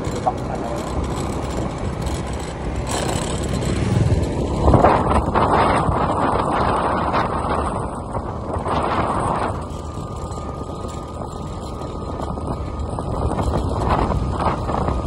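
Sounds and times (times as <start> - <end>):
motor scooter engine running: 0.0 - 15.0
wind rushing on microphone: 0.0 - 15.0.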